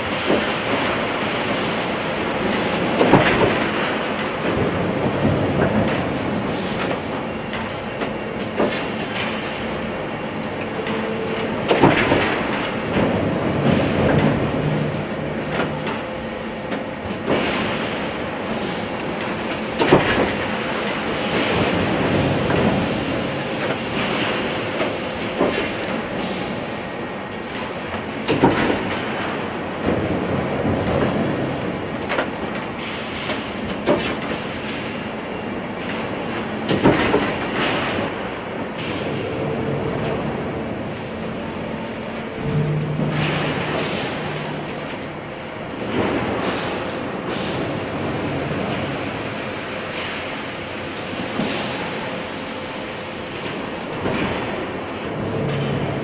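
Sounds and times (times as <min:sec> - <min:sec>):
industrial machinery running: 0:00.0 - 0:56.0.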